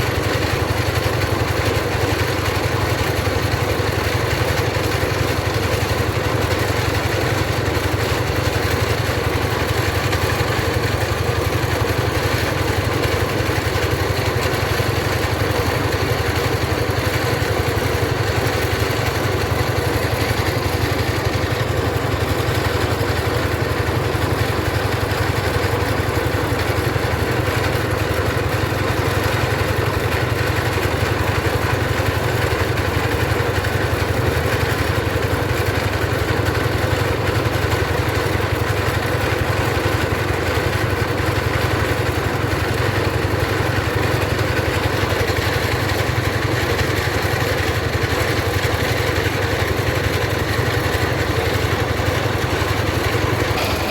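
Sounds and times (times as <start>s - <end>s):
rice mill engine droning: 0.0s - 53.9s.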